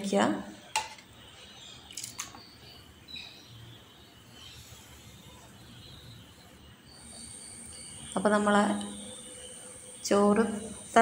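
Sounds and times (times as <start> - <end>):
bird chirps: 1.2 - 11.0.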